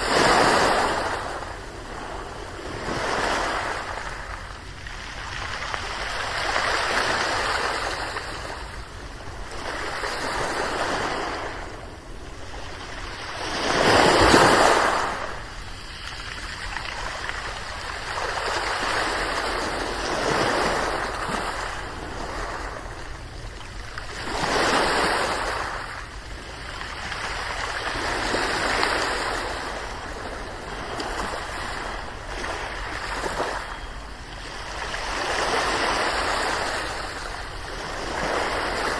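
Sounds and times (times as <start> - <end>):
ocean waves washing onto shore: 0.0 - 38.9.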